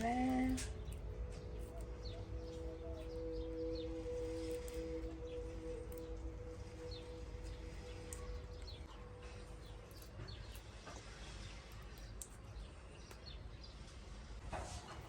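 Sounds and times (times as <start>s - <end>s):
low steady rumble: 0.0s - 15.0s
small birds chirping faintly: 0.0s - 15.0s.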